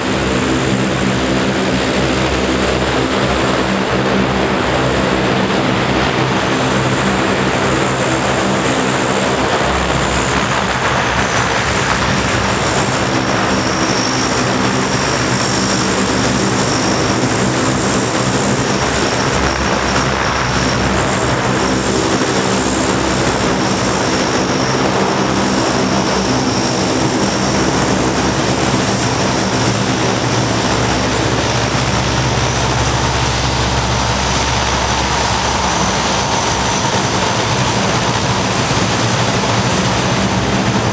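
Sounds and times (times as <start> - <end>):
high-pitched turbine whine: 0.0 - 40.9
propeller drone: 0.0 - 40.9.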